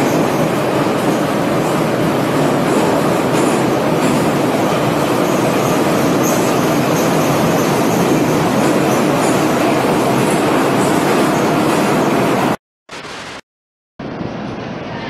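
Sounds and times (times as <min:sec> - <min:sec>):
metro train wheels on rail: 0:00.0 - 0:12.6.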